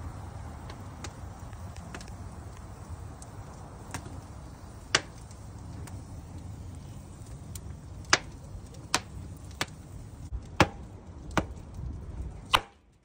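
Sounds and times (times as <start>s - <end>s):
burning logs popping and cracking: 0.0s - 13.0s
low rumble of flames: 0.0s - 13.0s.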